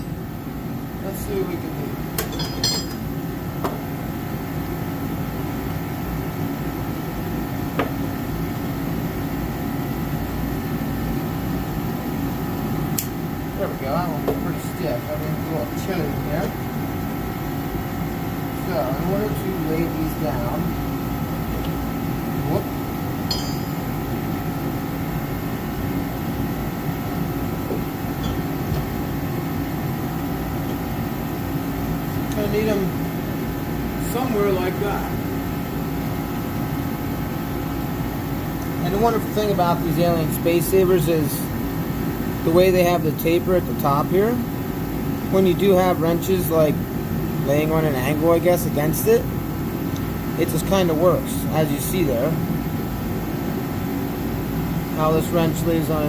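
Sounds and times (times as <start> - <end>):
space heater drone: 0.0 - 56.0.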